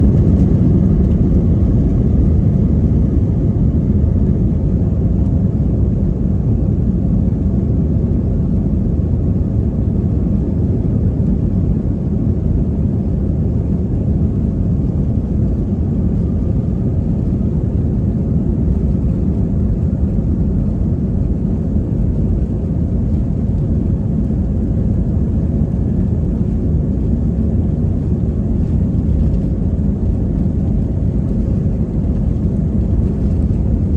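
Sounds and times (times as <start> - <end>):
jet engines roaring at takeoff: 0.0 - 33.9.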